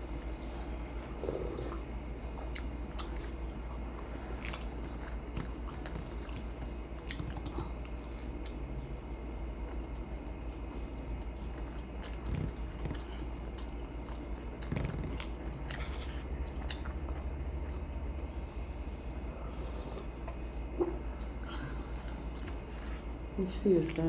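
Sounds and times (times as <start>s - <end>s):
steady low hum: 0.0s - 24.0s
person chewing food: 0.1s - 23.3s.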